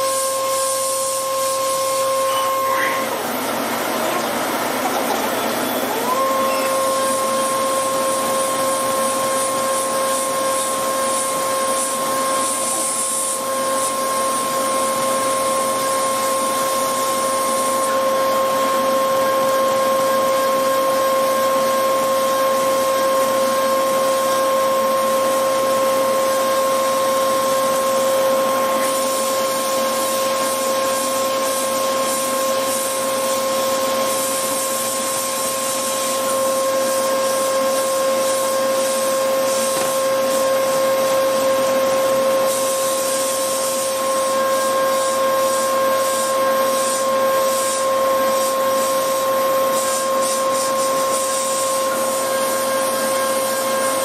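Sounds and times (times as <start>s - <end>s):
milling machine cutting metal: 0.0s - 54.0s.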